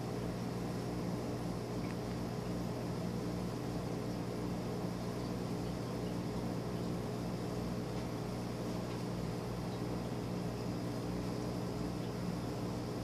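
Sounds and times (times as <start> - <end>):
aquarium pump humming and hissing: 0.0 - 13.0.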